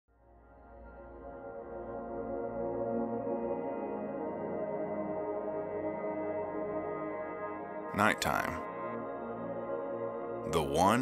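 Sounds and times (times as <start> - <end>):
ambient music with low drone: 0.1 - 11.0.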